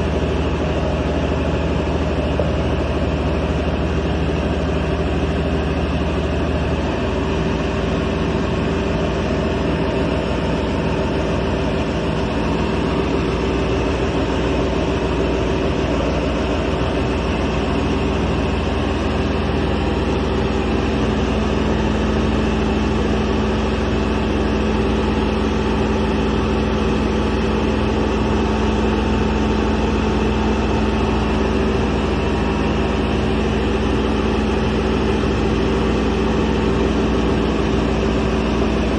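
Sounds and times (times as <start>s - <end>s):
drilling rig engine drone: 0.0s - 38.9s.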